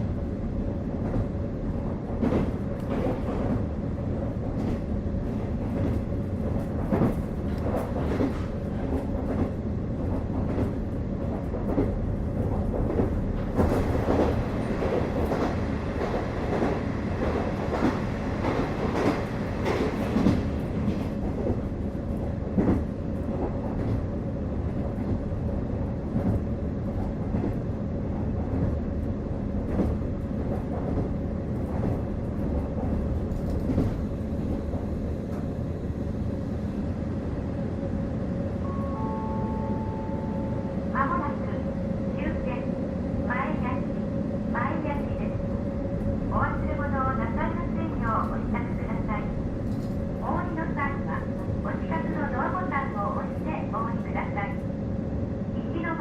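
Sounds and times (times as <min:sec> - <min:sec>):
railcar engine rumble and whine: 0:00.0 - 0:56.0.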